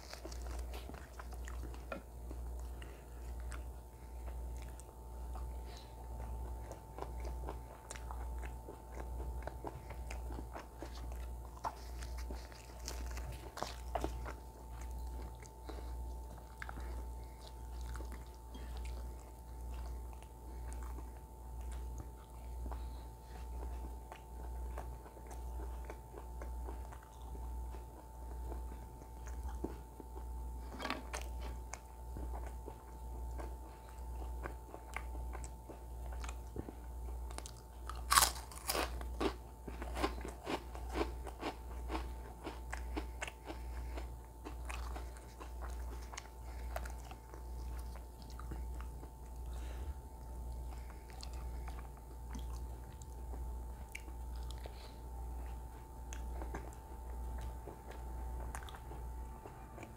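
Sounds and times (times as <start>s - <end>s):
chewing food with crunches: 0.0s - 59.9s
low pulsing hum: 0.0s - 59.9s.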